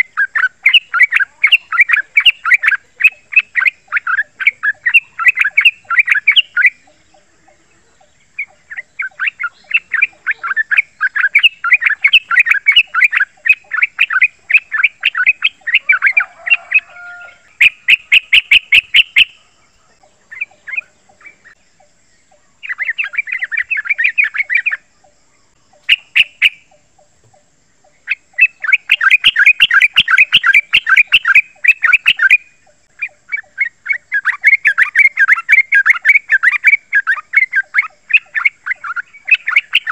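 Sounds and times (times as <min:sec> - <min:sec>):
bulbul singing chattering notes: 0:00.0 - 0:19.4, 0:20.0 - 0:39.9.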